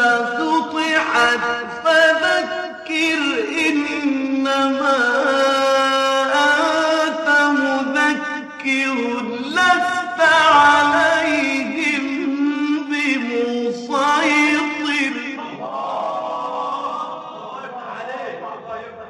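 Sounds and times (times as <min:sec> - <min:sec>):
man chanting melodically: 0:00.0 - 0:19.0.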